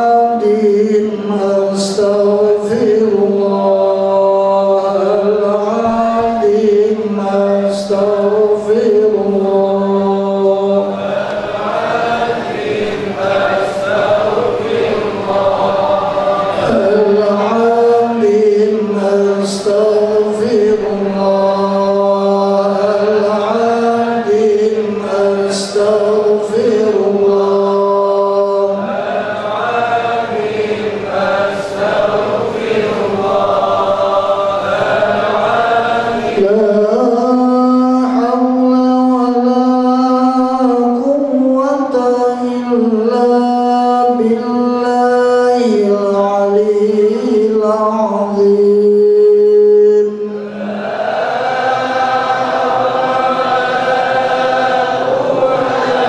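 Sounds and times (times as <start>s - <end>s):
men chanting together: 0.0s - 56.0s.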